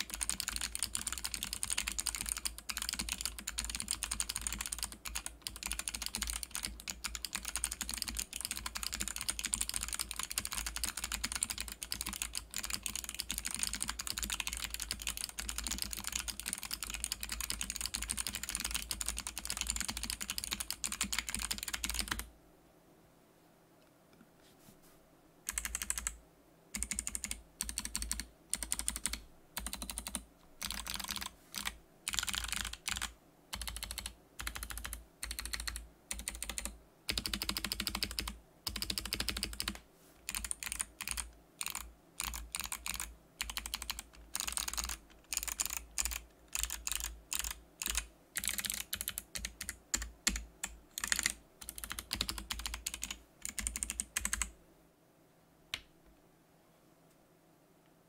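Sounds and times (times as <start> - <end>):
mechanical keyboard typing: 0.0 - 22.3, 25.5 - 26.2, 26.8 - 54.5.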